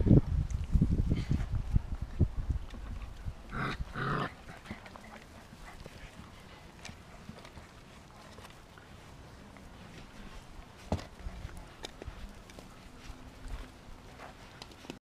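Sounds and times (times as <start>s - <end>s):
faint rustling and ticks: 0.4s - 15.0s.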